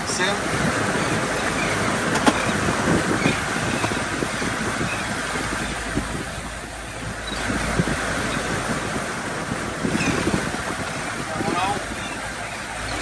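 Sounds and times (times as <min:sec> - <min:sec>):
boat rushing on choppy water: 0:00.0 - 0:13.0
wind buffeting microphone: 0:00.0 - 0:13.0.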